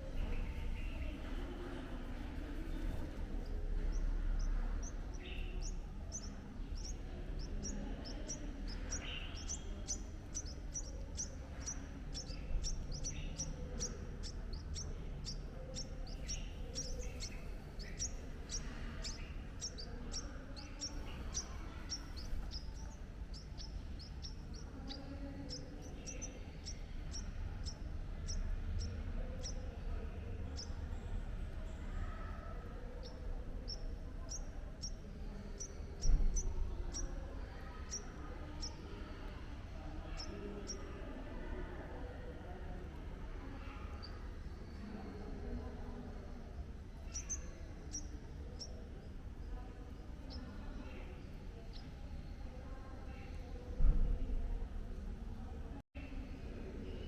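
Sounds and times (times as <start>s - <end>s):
bird chirping: 0.0s - 42.6s, 43.6s - 54.2s
low background rumble: 0.0s - 57.0s.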